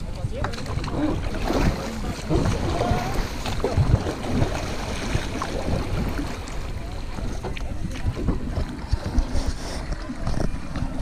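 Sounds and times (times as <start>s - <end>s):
wind buffeting microphone: 0.0s - 11.0s
paddle splashing in water: 0.2s - 11.0s.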